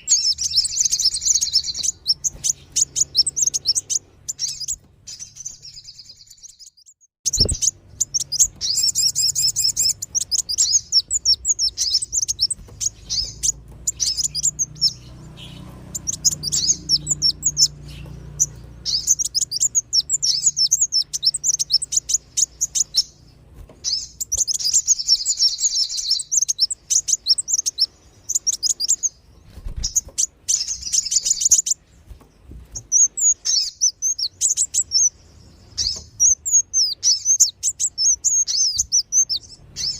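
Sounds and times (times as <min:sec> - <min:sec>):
high-pitched bird chirps: 0:00.0 - 0:31.8, 0:32.7 - 0:39.9.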